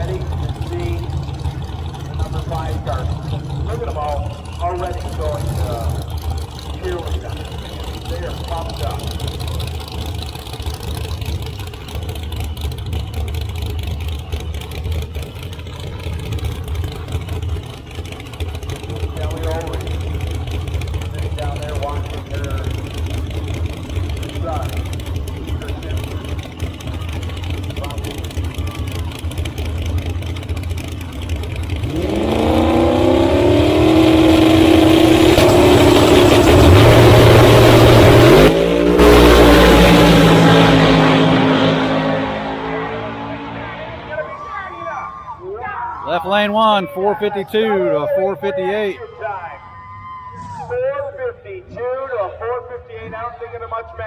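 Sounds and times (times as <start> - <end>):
racing car engines idling: 0.0 - 49.3.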